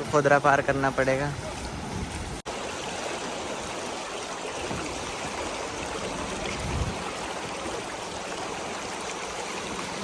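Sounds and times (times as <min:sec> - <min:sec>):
stream rushing over stones: 0:00.0 - 0:10.0.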